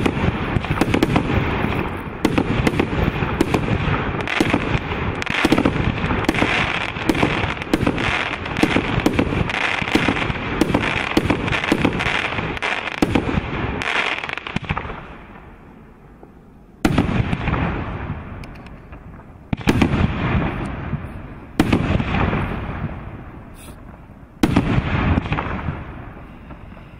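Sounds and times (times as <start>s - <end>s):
single firework bangs: 0.0s - 15.1s, 18.9s - 26.9s
fireworks shots and crackling: 0.0s - 26.9s.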